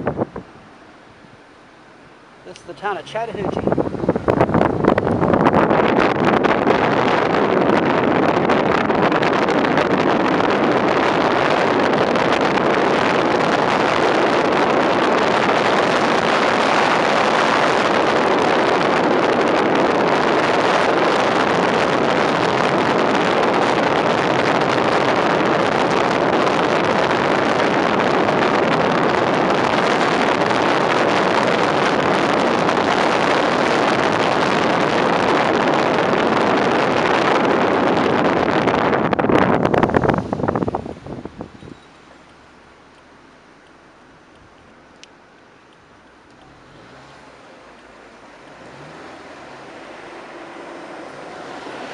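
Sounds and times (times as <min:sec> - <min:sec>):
wind rushing past a car: 0:00.0 - 0:51.9.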